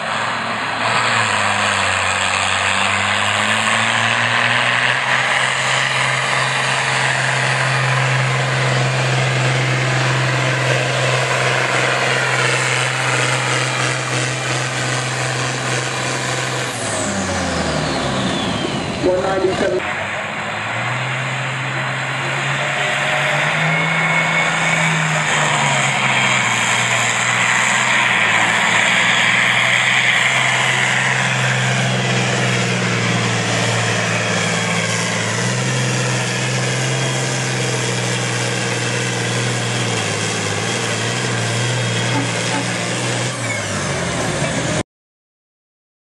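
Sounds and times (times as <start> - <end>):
tractor diesel engine under load: 0.0 - 44.8.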